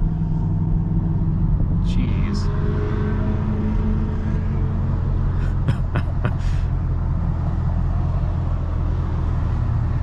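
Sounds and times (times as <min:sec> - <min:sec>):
car exhaust drone: 0:00.0 - 0:10.0.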